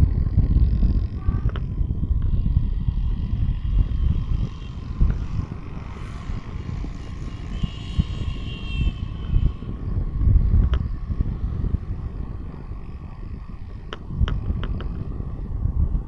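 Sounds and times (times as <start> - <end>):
road rumble: 0.0 - 16.0
vehicle engine drone: 0.0 - 16.0
wind on microphone: 0.0 - 16.0.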